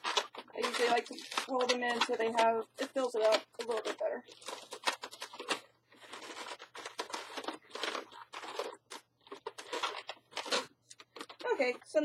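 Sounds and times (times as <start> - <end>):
balloons rubbing and scraping: 0.0 - 12.0.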